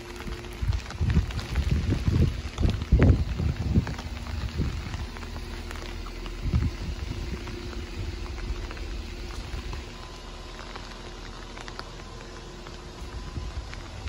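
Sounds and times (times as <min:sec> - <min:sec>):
heavy rain on pavement: 0:00.0 - 0:14.0.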